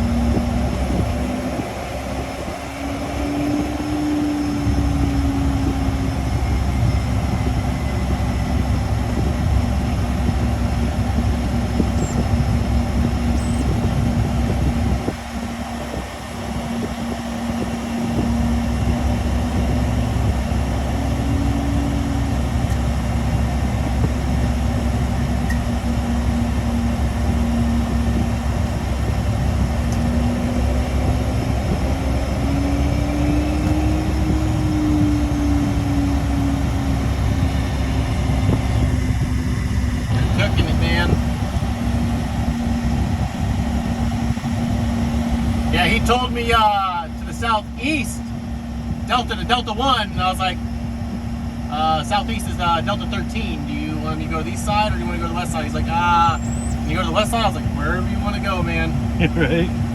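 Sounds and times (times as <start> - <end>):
jet engines deep rumble: 0.0 - 59.9.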